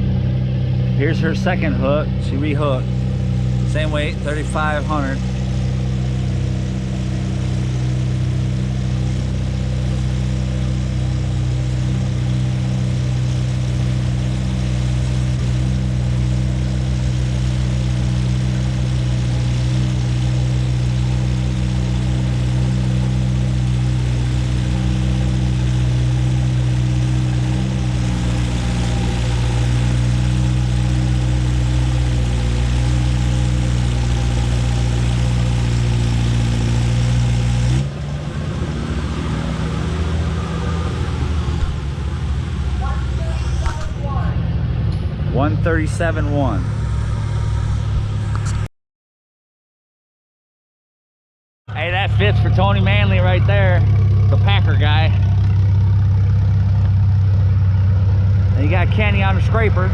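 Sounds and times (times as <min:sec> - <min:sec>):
tractor engine running under load: 0:00.0 - 0:48.7, 0:51.7 - 0:59.9.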